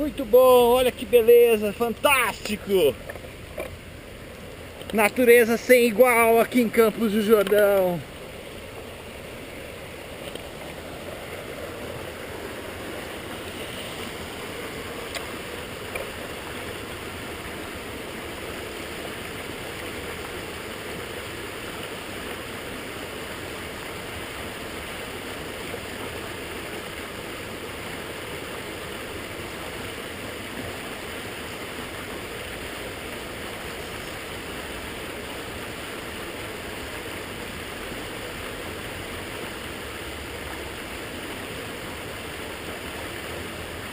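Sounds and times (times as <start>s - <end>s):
flowing water rushing: 0.0s - 43.9s.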